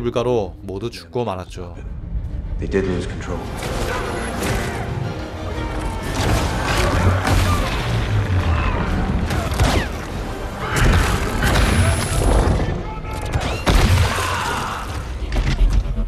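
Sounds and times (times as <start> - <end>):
dramatic music: 0.0 - 16.0.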